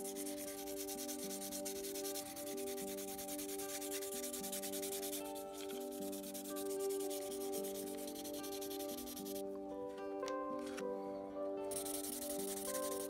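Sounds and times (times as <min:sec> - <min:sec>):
sanding sponge rasping on plastic: 0:00.0 - 0:09.4, 0:11.8 - 0:13.0
soft background music: 0:00.0 - 0:13.0.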